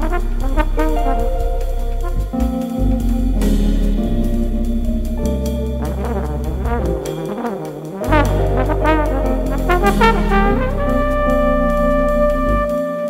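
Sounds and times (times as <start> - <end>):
low bass line: 0.0 - 12.8
jazz trombone solo: 0.0 - 13.0.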